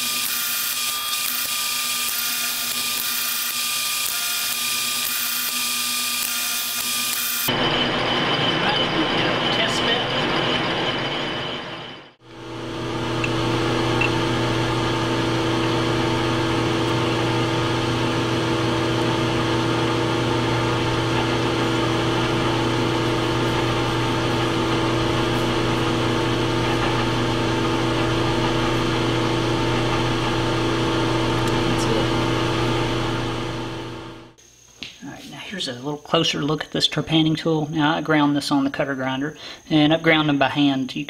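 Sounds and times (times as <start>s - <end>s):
metal lathe humming: 0.0s - 34.4s.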